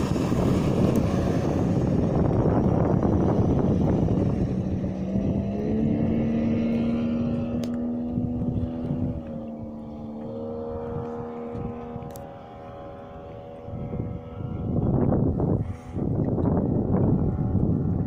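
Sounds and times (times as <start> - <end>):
motorboat engine droning: 0.0 - 18.0
wind buffeting microphone: 0.0 - 18.0.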